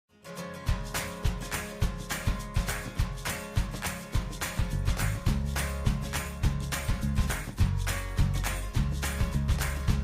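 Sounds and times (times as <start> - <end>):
background music with thumping beat: 0.7 - 10.0.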